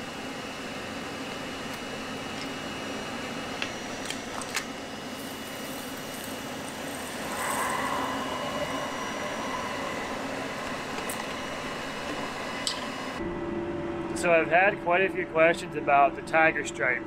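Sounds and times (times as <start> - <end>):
fan-driven hum and hiss: 0.0 - 17.0.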